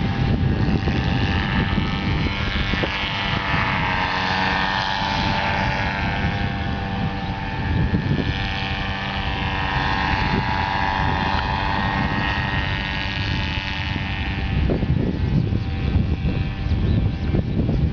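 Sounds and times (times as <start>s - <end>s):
motor-like hum: 0.0s - 17.9s
wind buffeting microphone: 0.0s - 17.9s.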